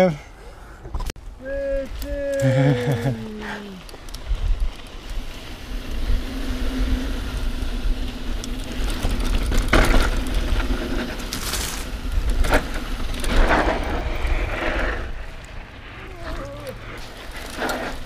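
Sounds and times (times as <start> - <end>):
bike tyres rumbling on dirt: 1.6 - 18.0
bike rattling over bumps: 2.5 - 18.0.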